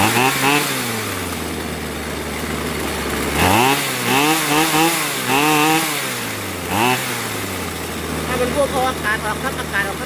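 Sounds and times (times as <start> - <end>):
chainsaw engine revving: 0.0 - 10.0.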